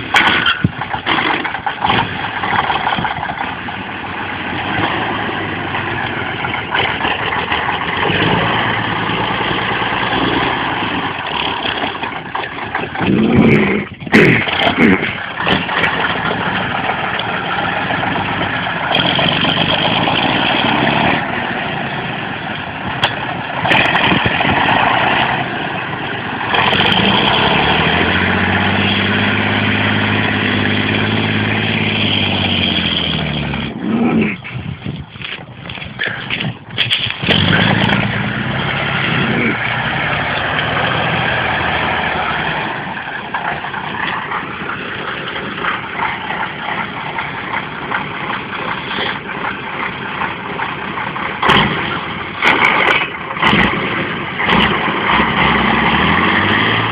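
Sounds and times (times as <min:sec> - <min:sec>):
truck diesel engine revving: 0:00.0 - 0:34.9, 0:35.7 - 0:56.9.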